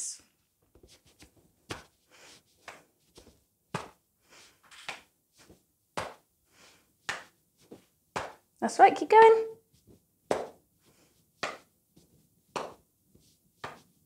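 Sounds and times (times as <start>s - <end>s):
hands patting knees: 0.7s - 6.3s, 7.0s - 8.4s, 9.7s - 14.0s.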